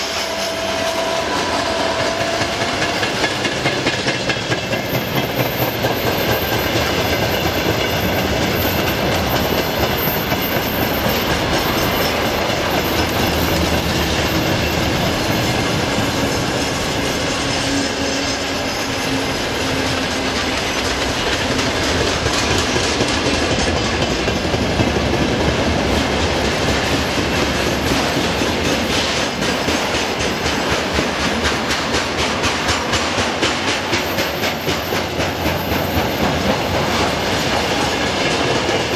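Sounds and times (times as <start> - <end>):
steel wheels rumbling on rails: 0.0 - 38.9
rhythmic clickety-clack: 0.1 - 38.9.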